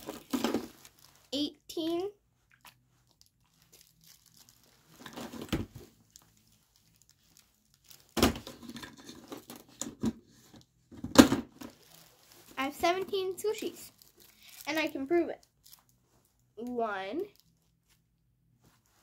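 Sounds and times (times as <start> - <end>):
toys rustling and crinkling: 0.0 - 18.0.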